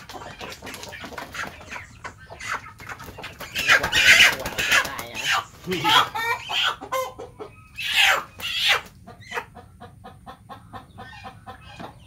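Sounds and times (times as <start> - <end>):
chicken clucking softly: 0.0 - 12.0
chicken squawking: 0.0 - 12.0.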